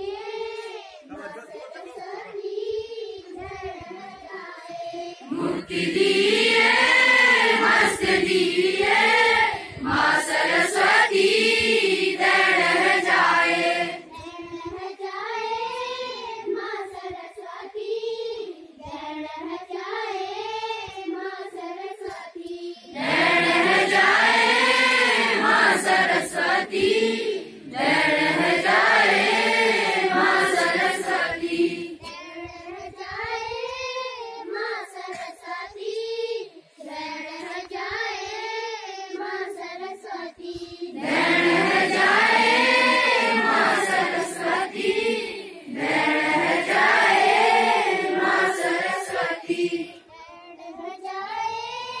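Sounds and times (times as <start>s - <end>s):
children singing a prayer: 0.0s - 52.0s.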